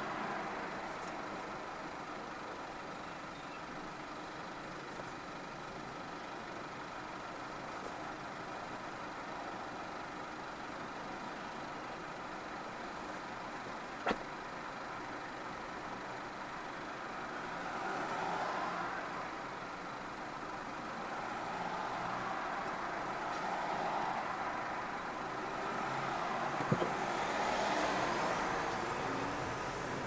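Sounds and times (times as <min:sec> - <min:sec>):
car tyre and engine noise: 0:00.0 - 0:30.0.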